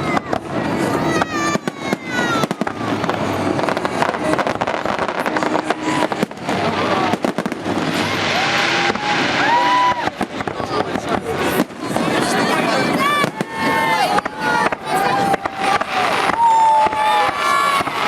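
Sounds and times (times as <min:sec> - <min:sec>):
people shouting: 0:00.0 - 0:10.5, 0:12.2 - 0:18.0
fireworks bangs and crackling: 0:00.0 - 0:18.0
spectators' voices: 0:00.0 - 0:18.0.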